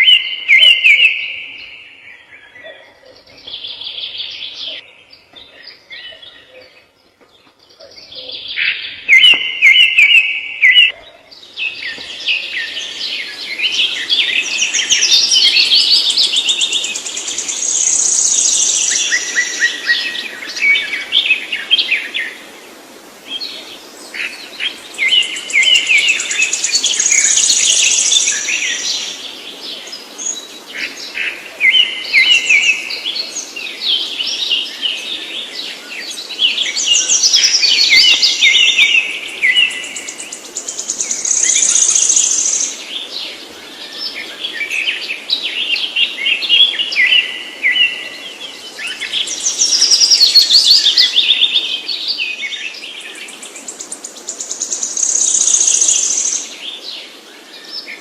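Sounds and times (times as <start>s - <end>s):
songbird chirps and trills: 0.0s - 58.0s.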